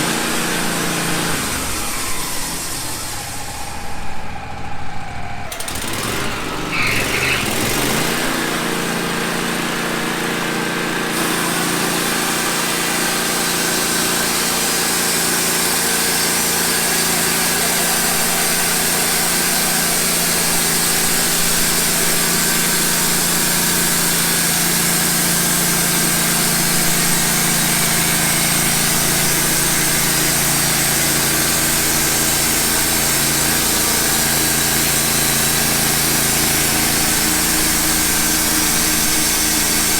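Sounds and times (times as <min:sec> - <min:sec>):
sawmill engine running: 0:00.0 - 0:39.9
band blade cutting log: 0:06.0 - 0:39.9.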